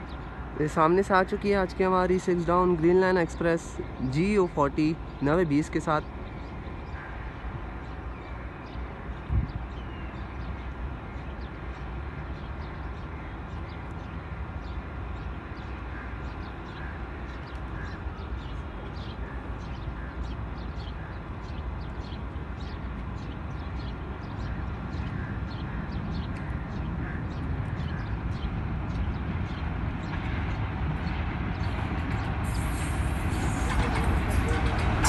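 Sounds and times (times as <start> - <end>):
birds chirping: 0.0 - 35.0
low rumble of locomotive: 0.0 - 35.0.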